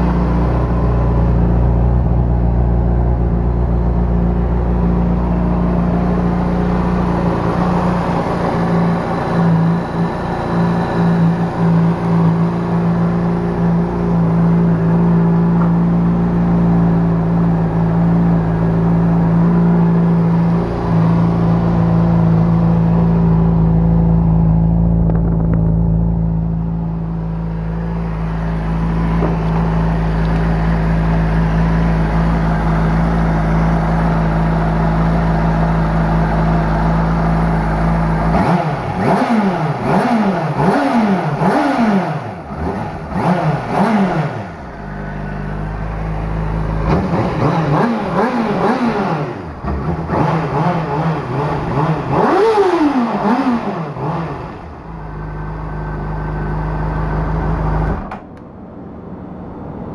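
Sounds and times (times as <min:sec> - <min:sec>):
motorcycle engine idling: 0:00.0 - 0:50.1
motorcycle engine revving: 0:00.0 - 0:58.2.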